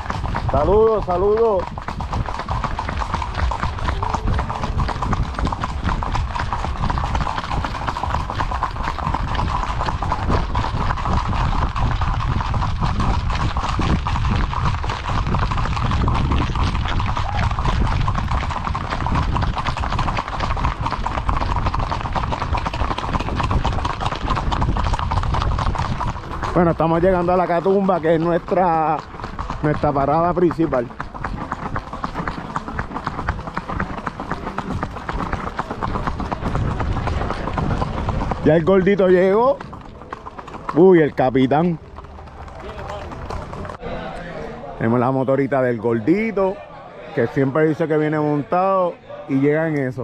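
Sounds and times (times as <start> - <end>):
horse hooves clip-clopping: 0.0 - 43.8.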